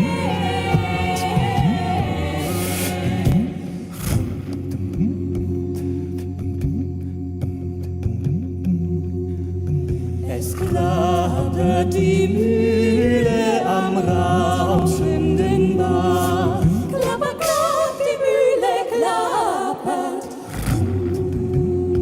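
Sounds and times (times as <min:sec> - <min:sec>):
low voices singing drone notes: 0:00.0 - 0:22.0.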